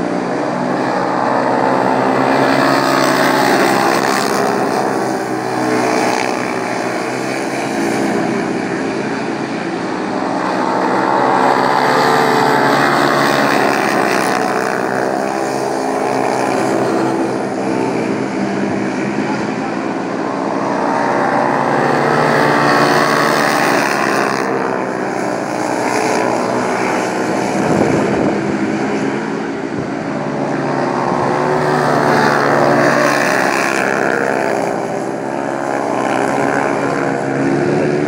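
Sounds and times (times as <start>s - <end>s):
motorcycle engines racing: 0.0s - 38.0s.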